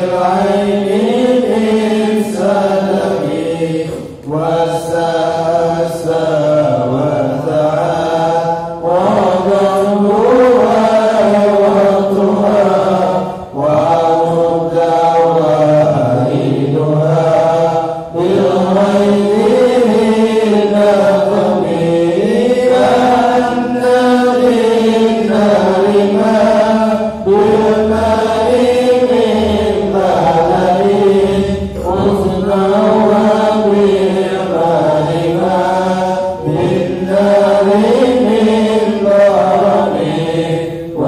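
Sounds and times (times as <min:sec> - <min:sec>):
voices chanting devotional verses: 0:00.0 - 0:41.0.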